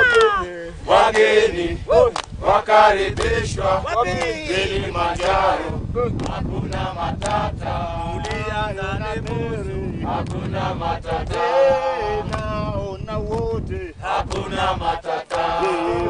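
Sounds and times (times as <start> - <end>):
men singing in chorus: 0.8 - 16.0.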